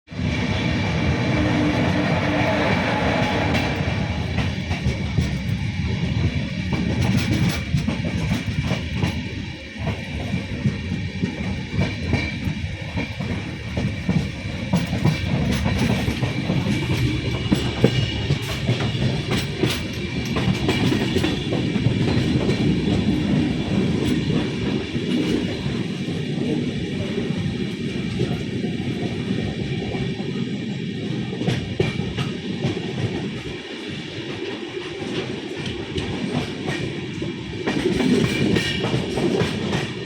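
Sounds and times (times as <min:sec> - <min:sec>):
train rumbling on tracks: 0:00.1 - 0:40.0.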